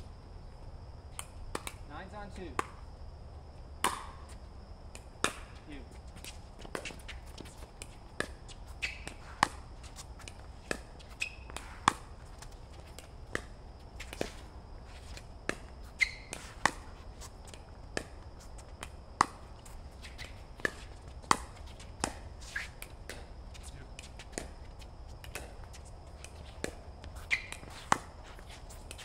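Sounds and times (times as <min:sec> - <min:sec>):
paddles hitting ball: 0:01.2 - 0:01.8, 0:02.4 - 0:02.9, 0:03.8 - 0:29.0.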